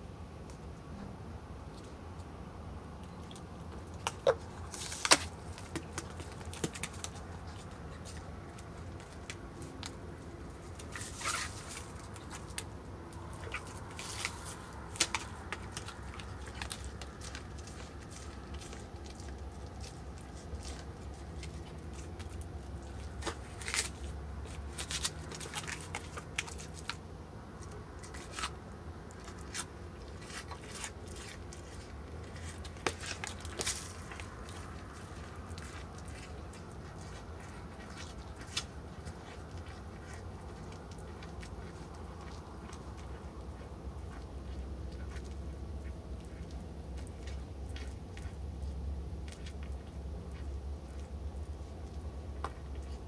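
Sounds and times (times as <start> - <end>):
steady low hum: 0.0 - 53.0
deer chewing and crunching: 3.3 - 53.0.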